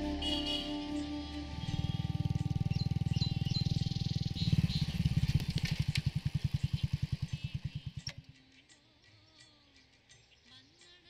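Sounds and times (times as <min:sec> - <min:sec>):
motorcycle engine idling: 0:00.0 - 0:09.3
birds chirping: 0:00.0 - 0:11.0.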